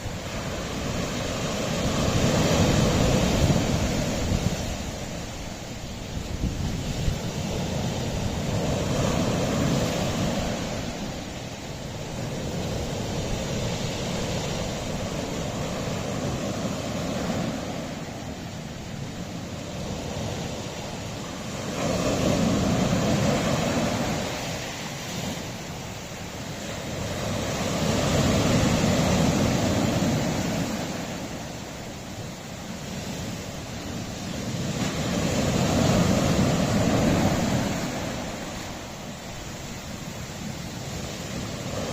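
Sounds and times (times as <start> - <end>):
waves washing against rocky shore: 0.0 - 41.9
wind buffeting microphone: 0.0 - 41.9.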